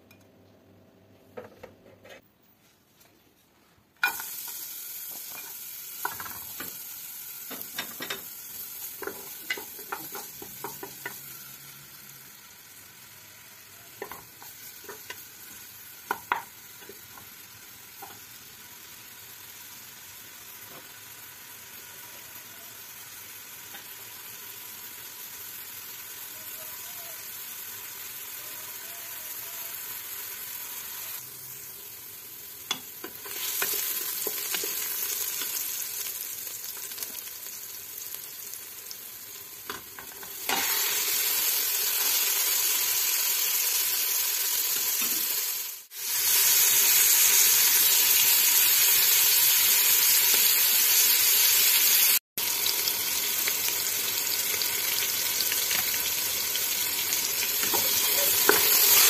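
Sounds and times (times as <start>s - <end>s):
meat frying in oil: 4.0s - 59.0s
onions sizzling in hot oil: 4.0s - 59.0s.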